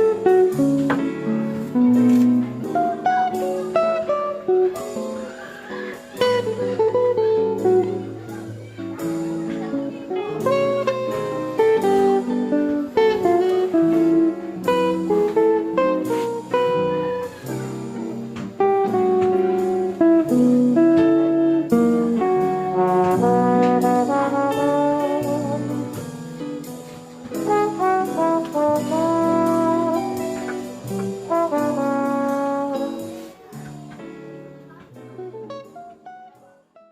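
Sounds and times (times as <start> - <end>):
upbeat jazzy music with brass: 0.0 - 5.0, 6.2 - 8.4, 10.4 - 33.4.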